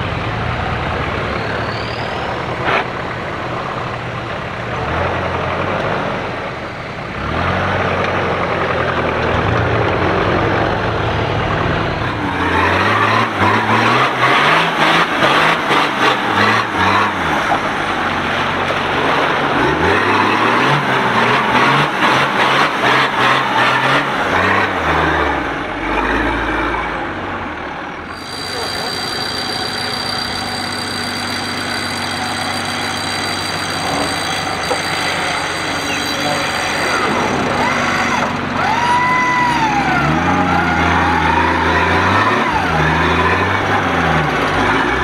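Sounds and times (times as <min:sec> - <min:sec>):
off-road engines revving: 0:00.0 - 0:45.0.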